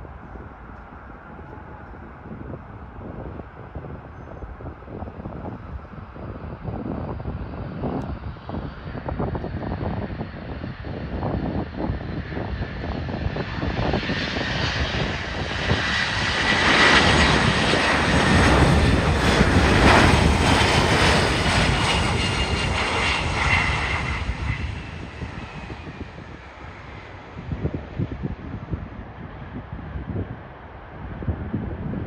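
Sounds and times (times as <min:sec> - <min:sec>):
airplane passing overhead: 0:00.0 - 0:32.0.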